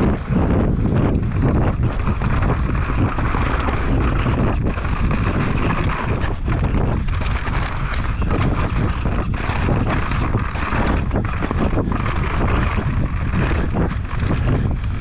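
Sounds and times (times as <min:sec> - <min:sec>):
bike knocking and clattering: 0:00.0 - 0:15.0
tyres rolling over dirt and rocks: 0:00.0 - 0:15.0
wind rushing over microphone: 0:00.0 - 0:15.0.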